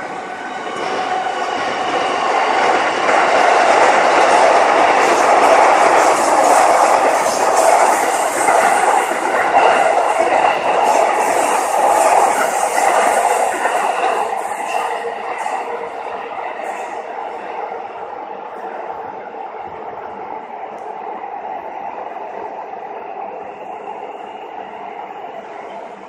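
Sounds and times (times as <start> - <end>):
train passing with rail noise: 0.0 - 26.0.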